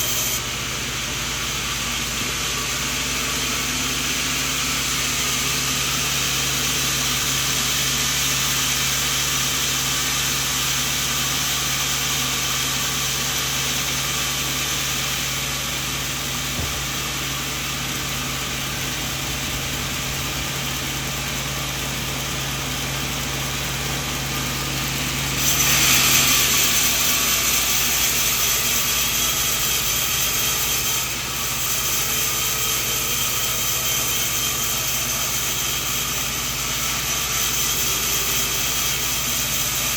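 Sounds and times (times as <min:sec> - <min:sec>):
band sawmill sawing wood: 0:00.0 - 0:39.9.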